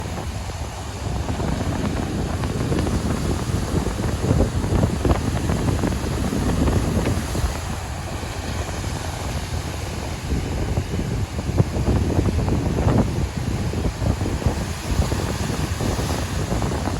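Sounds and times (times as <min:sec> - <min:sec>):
waves washing: 0:00.0 - 0:16.9
wind gusting against microphone: 0:00.0 - 0:16.9.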